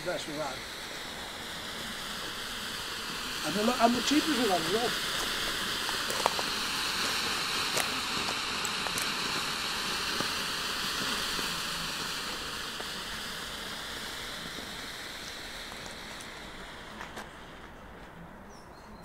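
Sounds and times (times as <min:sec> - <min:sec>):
smoke grenade hissing: 0:00.0 - 0:18.1.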